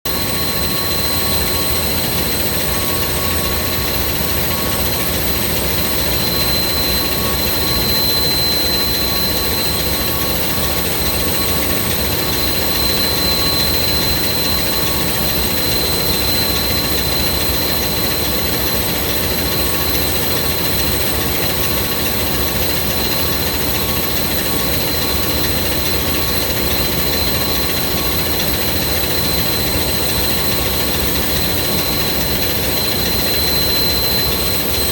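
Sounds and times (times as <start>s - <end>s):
smoke detector alarm tone: 0.1s - 34.9s.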